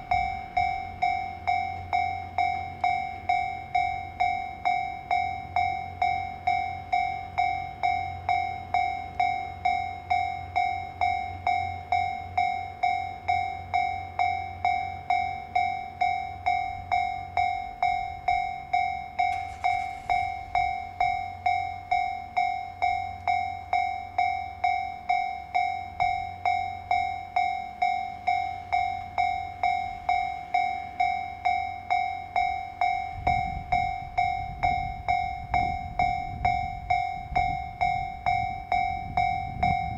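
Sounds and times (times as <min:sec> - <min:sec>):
level-crossing two-tone bell: 0:00.0 - 0:39.9
low train rumble: 0:00.0 - 0:39.9.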